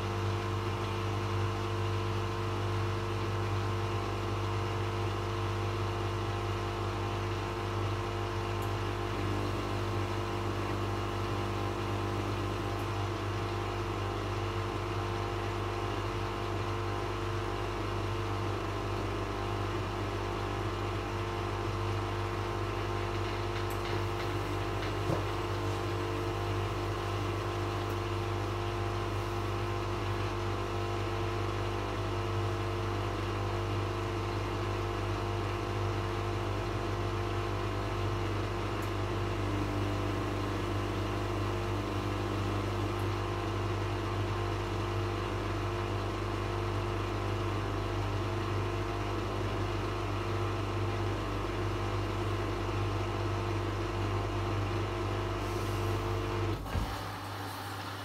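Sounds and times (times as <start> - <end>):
washing machine drain pump humming: 0.0 - 58.0.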